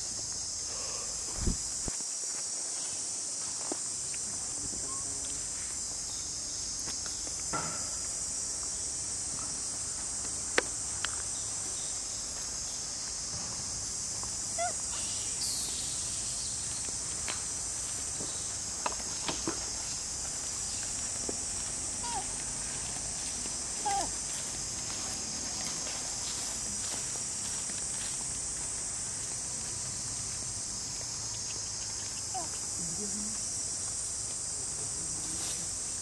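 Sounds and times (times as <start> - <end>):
insect chorus droning: 0.0 - 36.0.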